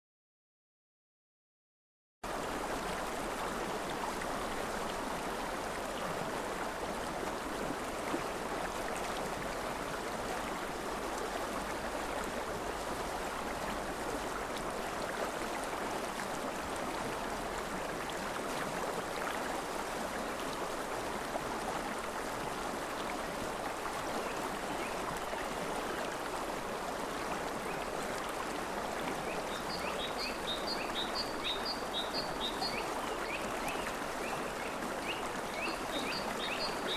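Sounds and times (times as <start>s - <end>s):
river water rushing: 2.4s - 36.9s.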